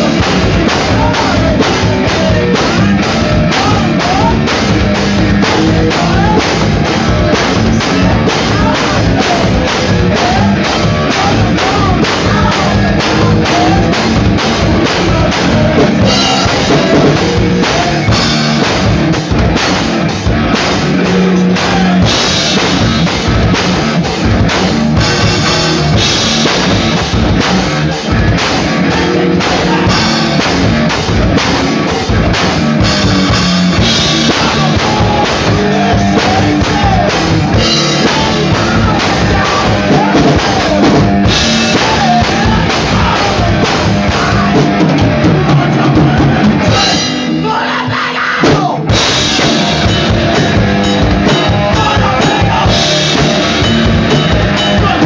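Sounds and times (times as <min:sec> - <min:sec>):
drum kit steady beat: 0:00.0 - 0:55.0
electric guitar: 0:00.0 - 0:55.0.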